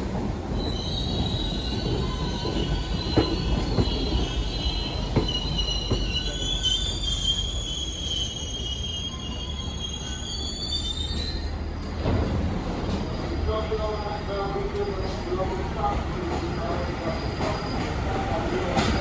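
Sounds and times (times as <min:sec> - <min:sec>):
train rumble: 0:00.0 - 0:10.2, 0:10.9 - 0:19.0
train wheels squealing on rails: 0:00.4 - 0:19.0.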